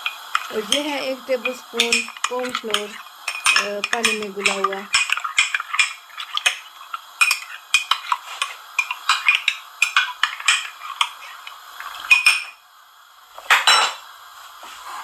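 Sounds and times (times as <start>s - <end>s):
metal spoon stirring and clinking: 0.0s - 12.6s.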